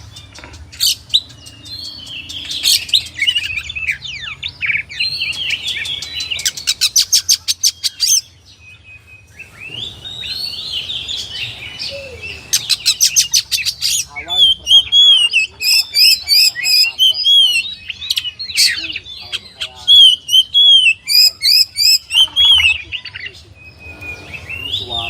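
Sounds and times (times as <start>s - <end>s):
bird singing: 0.0s - 25.0s.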